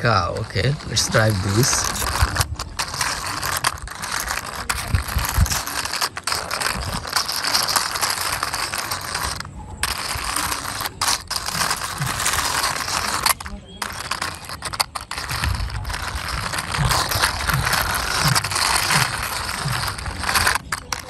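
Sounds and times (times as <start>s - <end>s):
toy wheels rattling along wall: 0.0s - 21.0s.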